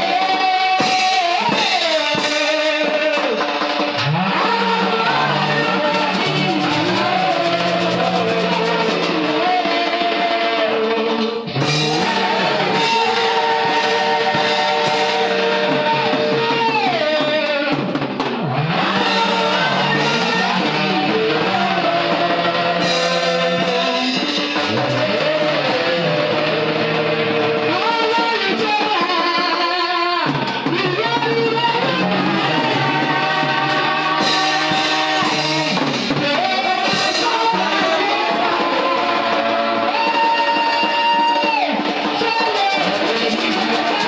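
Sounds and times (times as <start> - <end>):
gospel band with drums and guitar: 0.0 - 44.0.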